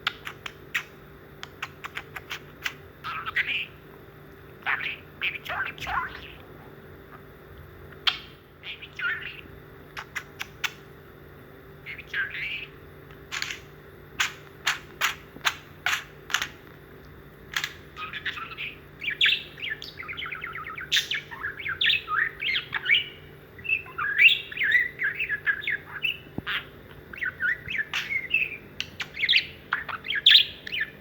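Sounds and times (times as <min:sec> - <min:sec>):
budgerigar warbling and chattering: 0:01.6 - 0:03.8, 0:04.6 - 0:06.5, 0:08.0 - 0:10.8, 0:11.8 - 0:16.6, 0:17.6 - 0:31.0.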